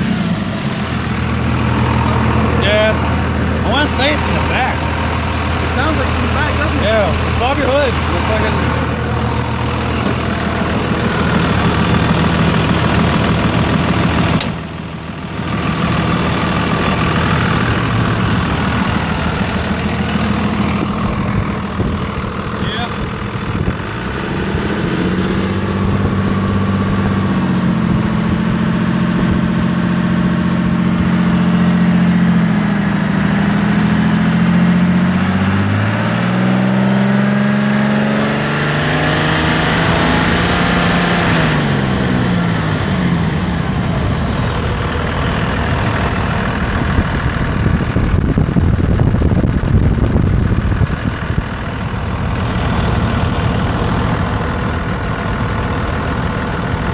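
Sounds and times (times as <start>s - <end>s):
diesel engine revving: 0.0s - 56.9s
faint turbo whine: 0.0s - 56.9s.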